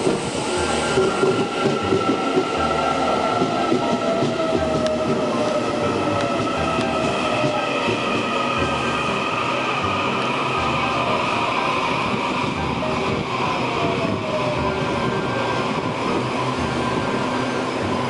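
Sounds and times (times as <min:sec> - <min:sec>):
train traction motors whining: 0:00.0 - 0:18.0
train wheels rumbling on rails: 0:00.0 - 0:18.0.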